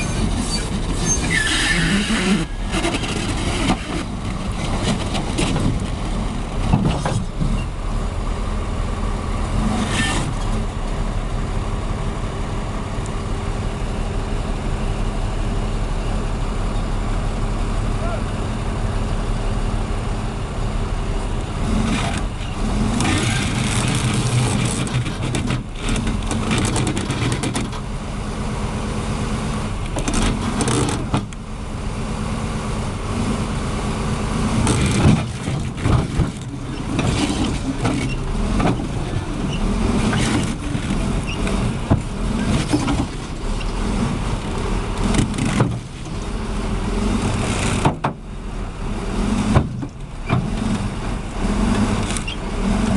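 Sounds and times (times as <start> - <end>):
heavy vehicle engines running: 0.0 - 52.9.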